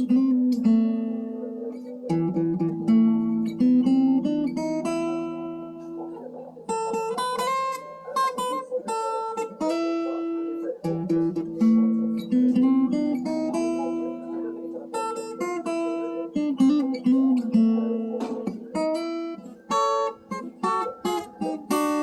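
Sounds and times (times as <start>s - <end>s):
acoustic guitar strummed and picked: 0.0s - 22.0s.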